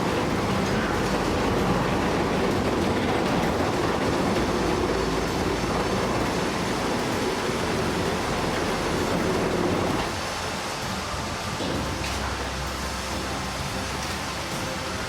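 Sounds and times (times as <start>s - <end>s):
heavy vehicle rumbling: 0.0s - 15.0s.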